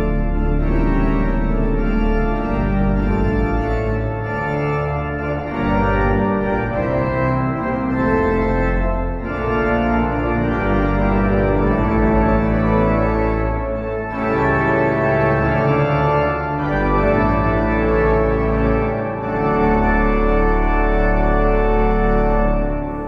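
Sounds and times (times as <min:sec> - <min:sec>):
pipe organ chords: 0:00.0 - 0:23.0.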